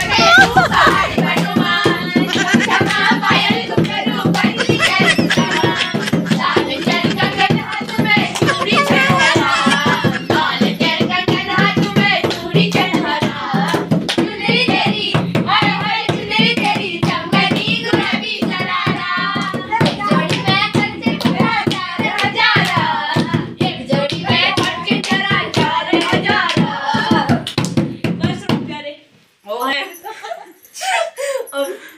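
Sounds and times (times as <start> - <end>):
hands clapping in rhythm: 0.0 - 27.9
people singing together: 0.0 - 28.2.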